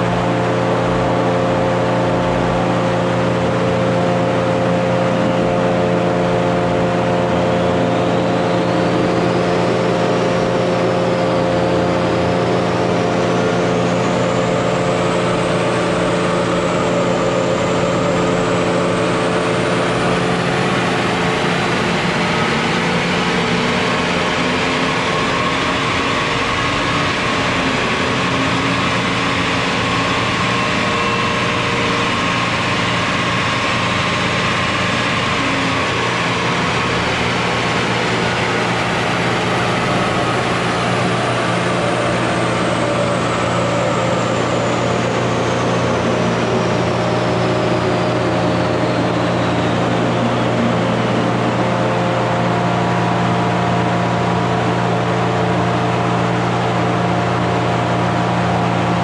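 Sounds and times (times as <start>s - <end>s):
car engine running: 0.0s - 59.0s
high whine: 0.0s - 59.0s.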